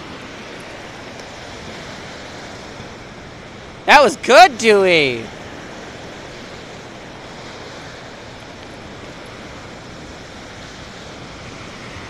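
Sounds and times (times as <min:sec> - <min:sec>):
surf on a beach: 0:00.0 - 0:12.0
wind: 0:00.0 - 0:12.0.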